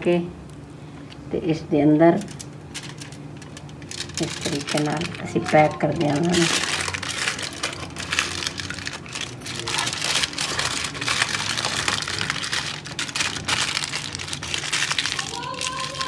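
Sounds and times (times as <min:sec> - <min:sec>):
aluminium foil crinkling: 0:02.0 - 0:16.0.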